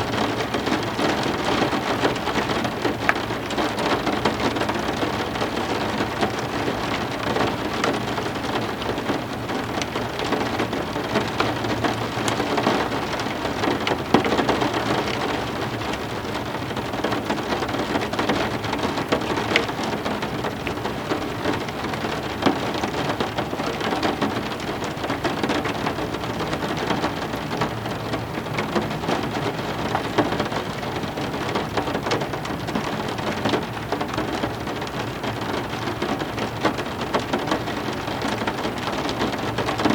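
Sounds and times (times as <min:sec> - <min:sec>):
raindrops splashing: 0:00.0 - 0:39.9.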